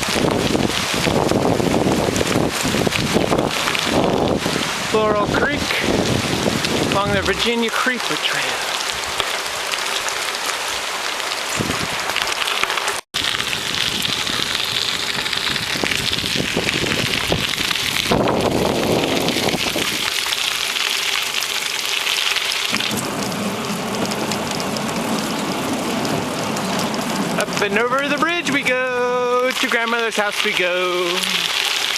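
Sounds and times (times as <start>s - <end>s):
creek water rushing: 0.0s - 12.9s, 16.4s - 31.9s.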